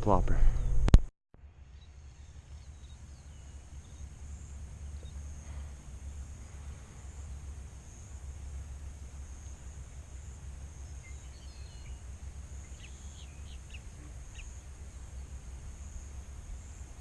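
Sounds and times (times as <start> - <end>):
constant low rumble: 0.0 - 17.0
bird chirps: 1.6 - 8.2, 9.2 - 16.8
high insect buzz: 2.4 - 17.0.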